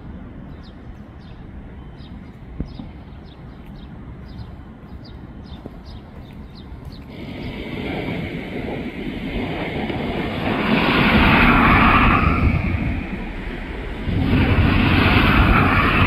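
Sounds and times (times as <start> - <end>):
vehicles passing: 2.4 - 16.0.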